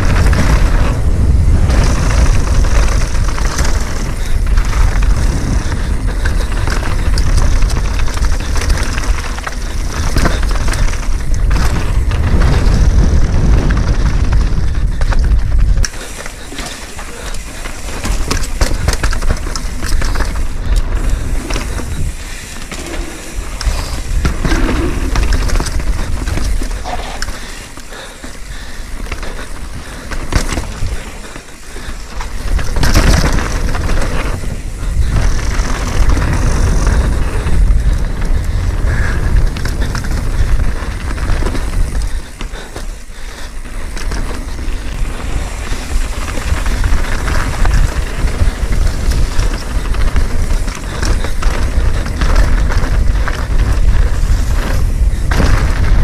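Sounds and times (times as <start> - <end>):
bike knocks and rattles: 0.0 - 56.0
tyre and wind rush: 0.0 - 56.0.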